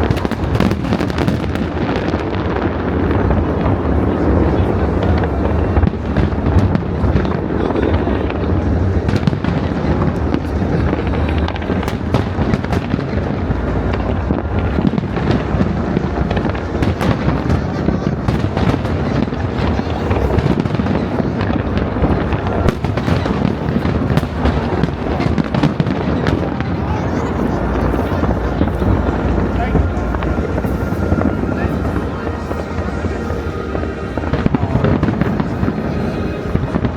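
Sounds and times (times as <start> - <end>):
fireworks crackling: 0.0 - 36.9
rumble of fireworks bursts: 0.0 - 36.9.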